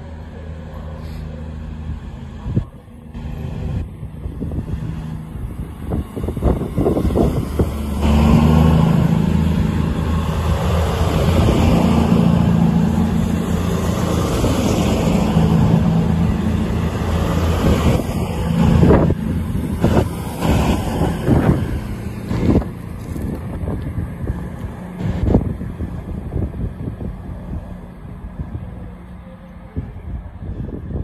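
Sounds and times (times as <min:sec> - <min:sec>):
train engine drone: 0:00.0 - 0:31.0
wheels rushing on rails: 0:00.0 - 0:31.0.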